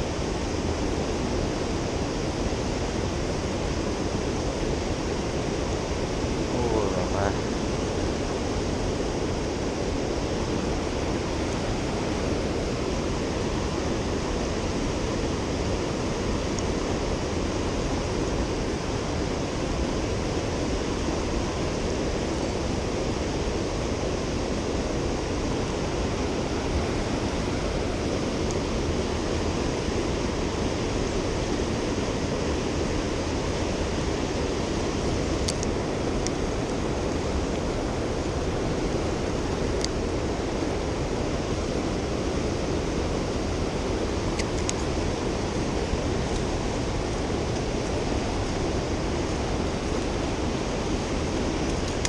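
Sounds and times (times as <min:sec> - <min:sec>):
river rushing over rocks: 0:00.0 - 0:52.0.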